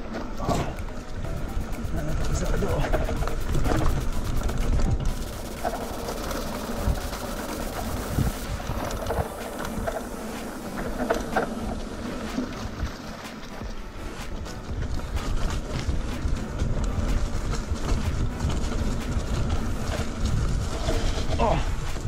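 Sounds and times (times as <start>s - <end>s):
bike clicks and rattles: 0.0s - 22.0s
bike tyres rumbling on dirt: 0.0s - 22.0s
wind buffeting microphone: 0.0s - 22.0s.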